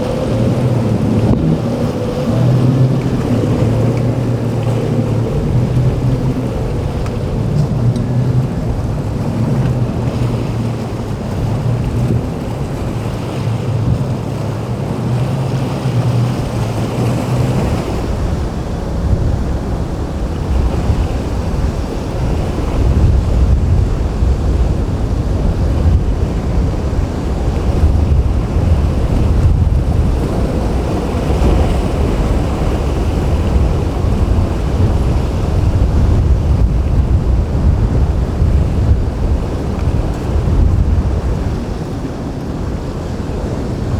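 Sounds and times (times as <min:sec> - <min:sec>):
boat motor humming: 0:00.0 - 0:43.9
waves breaking: 0:00.0 - 0:43.9
wind buffeting microphone: 0:00.0 - 0:43.9.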